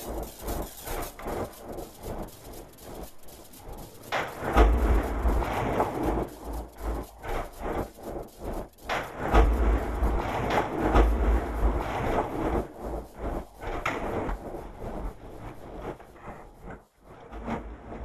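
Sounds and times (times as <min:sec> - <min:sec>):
deep rumble: 0:00.0 - 0:16.4
irregular knocks and clatters: 0:00.0 - 0:18.0.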